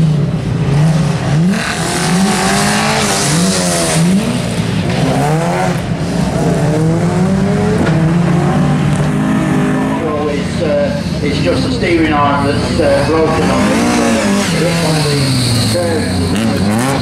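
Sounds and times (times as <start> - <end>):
car engine revving hard: 0.0 - 10.7, 12.7 - 17.0.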